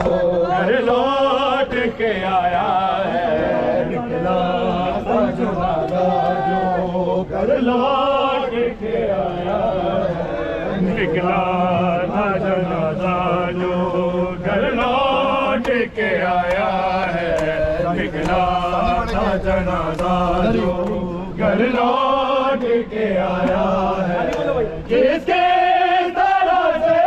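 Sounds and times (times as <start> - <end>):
men chanting in chorus: 0.0 - 27.0.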